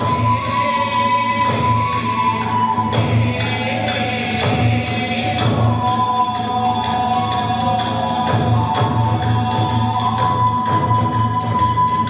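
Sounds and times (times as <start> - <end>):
bamboo flute long notes: 0.0 - 12.0
big drum beats: 0.0 - 12.0
hand cymbals clashing: 0.0 - 12.0.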